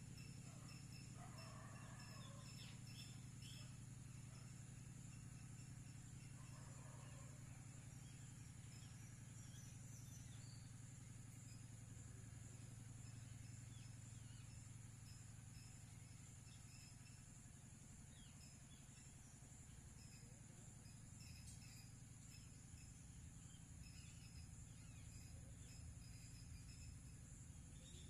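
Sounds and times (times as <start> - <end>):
insect drone: 0.0 - 28.0
faint bird chirps: 0.2 - 28.0.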